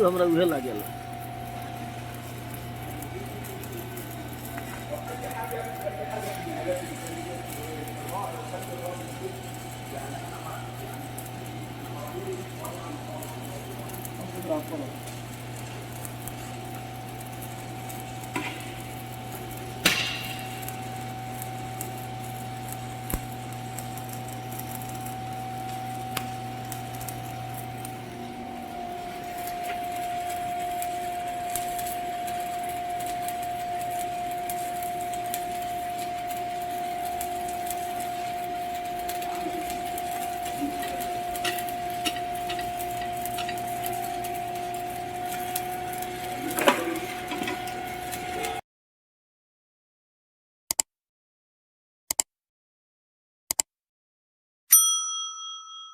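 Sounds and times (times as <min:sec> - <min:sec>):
welding arc buzzing: 0:00.0 - 0:48.6.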